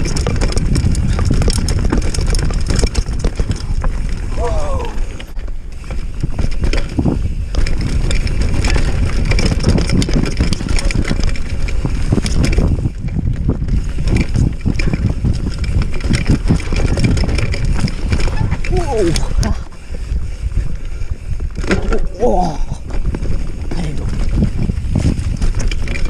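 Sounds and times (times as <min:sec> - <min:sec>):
bike knocking and rattling: 0:00.0 - 0:26.0
bike tyres rolling over dirt: 0:00.0 - 0:26.0
wind rumble on microphone: 0:00.0 - 0:26.0.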